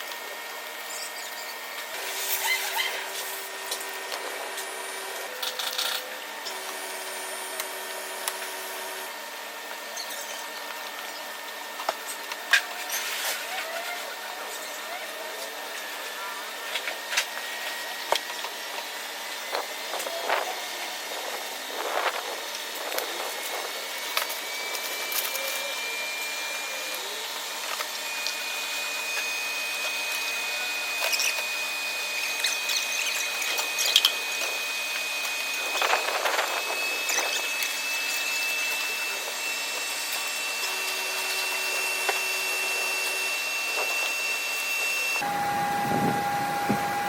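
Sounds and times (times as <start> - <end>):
power tool whining: 0.0 - 47.0.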